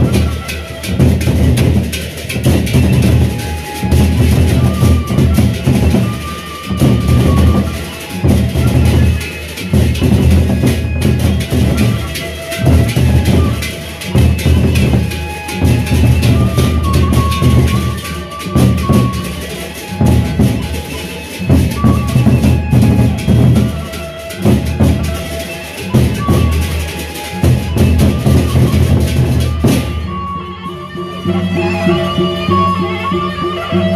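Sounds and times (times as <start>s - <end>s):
large drums beaten with sticks: 0.0s - 30.2s.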